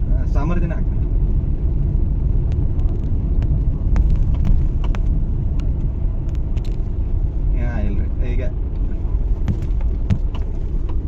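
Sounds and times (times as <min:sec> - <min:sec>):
tyre and engine rumble: 0:00.0 - 0:11.0.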